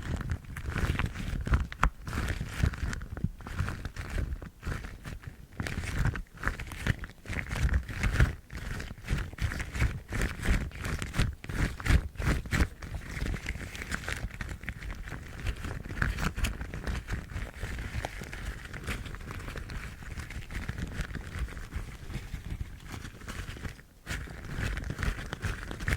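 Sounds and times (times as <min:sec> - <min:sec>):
rubber gloves rubbing and rustling: 0:00.0 - 0:25.9.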